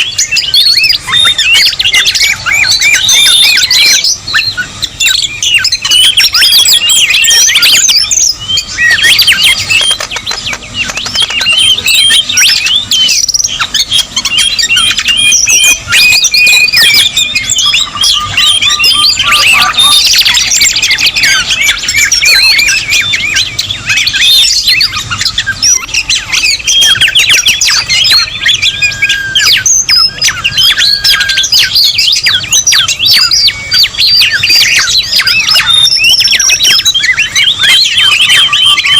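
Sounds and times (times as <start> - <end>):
chorus of songbirds calling: 0.0 - 38.9.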